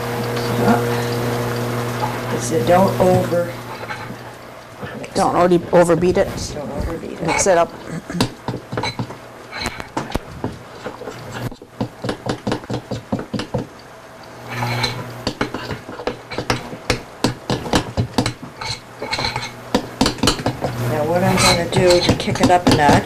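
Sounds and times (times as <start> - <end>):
utensil stirring batter in bowl: 0.0 - 23.0.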